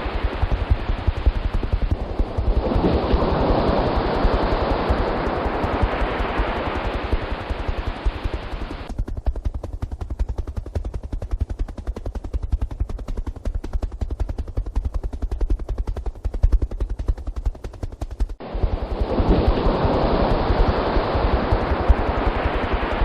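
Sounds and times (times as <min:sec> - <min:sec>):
helicopter rotor chopping: 0:00.0 - 0:23.0
steady rushing noise: 0:00.0 - 0:23.0.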